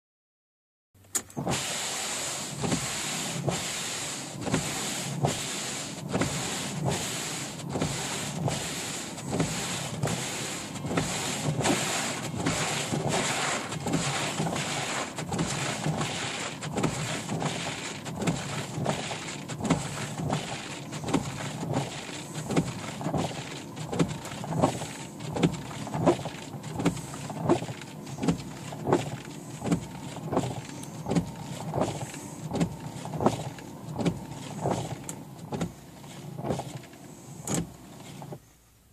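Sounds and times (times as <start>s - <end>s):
windshield wipers scraping: 1.0s - 38.8s
car running rushing noise: 1.1s - 38.4s.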